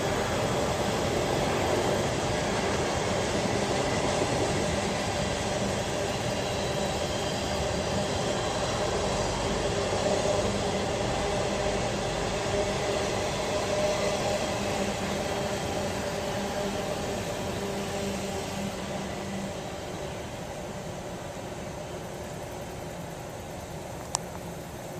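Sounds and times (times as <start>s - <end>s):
train rumbling past: 0.0s - 24.9s.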